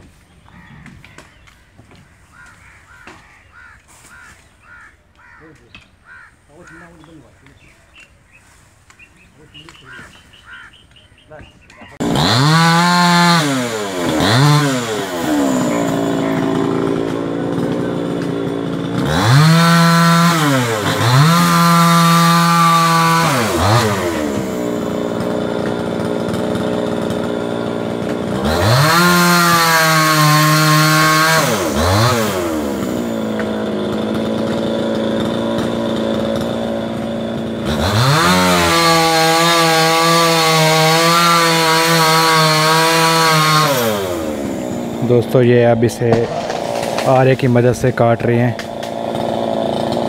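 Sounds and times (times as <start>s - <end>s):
chainsaw cutting wood: 0.8s - 8.0s, 8.8s - 50.0s.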